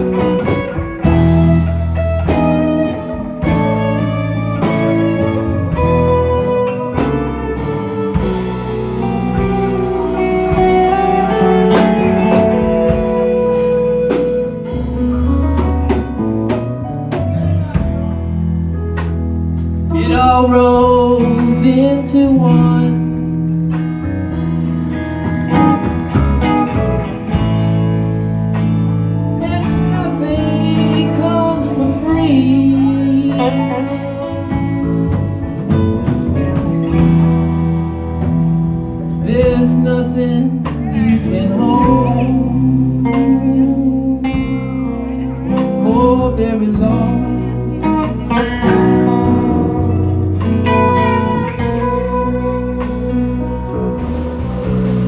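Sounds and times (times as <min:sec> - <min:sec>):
electric guitar lead melody: 0:00.0 - 0:55.0
rock band playing a ballad: 0:00.0 - 0:55.0.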